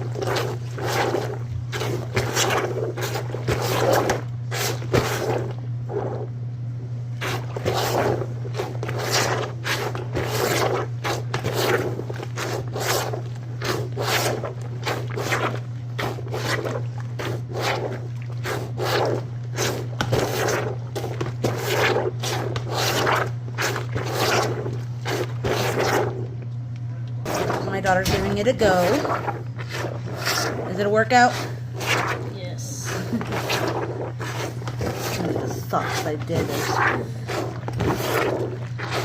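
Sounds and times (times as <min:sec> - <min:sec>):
laundry plunger swishing in water: 0:00.0 - 0:06.4, 0:07.2 - 0:26.4, 0:27.2 - 0:39.0
steady low hum: 0:00.0 - 0:39.0.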